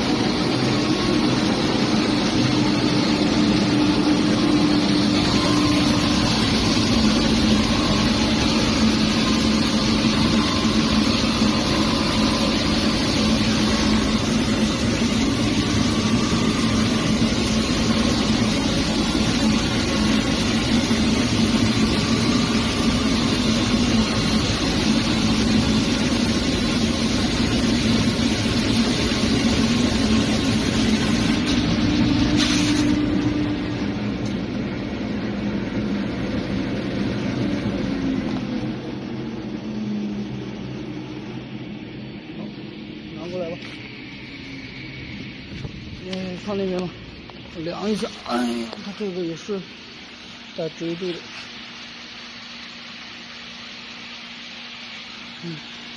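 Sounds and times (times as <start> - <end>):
pipe threading machine hum: 0.0 - 55.9.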